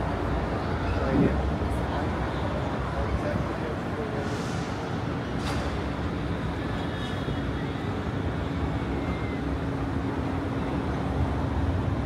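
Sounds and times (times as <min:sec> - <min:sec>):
passing traffic engine hum: 0:00.0 - 0:12.0.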